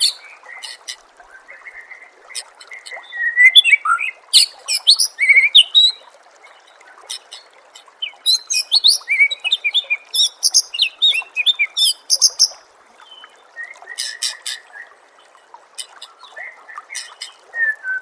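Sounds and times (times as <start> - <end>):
songbird singing: 0.0 - 15.0, 15.8 - 18.0
water trickling: 0.0 - 18.0.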